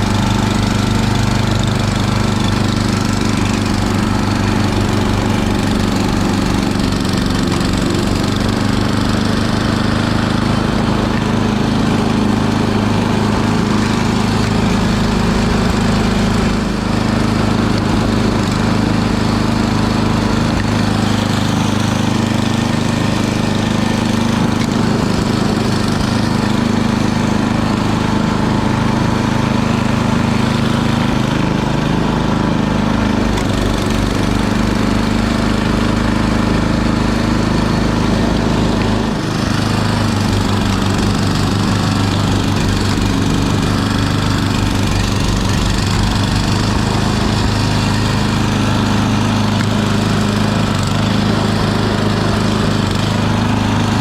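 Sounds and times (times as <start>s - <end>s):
snow blower engine running: 0.0s - 54.0s.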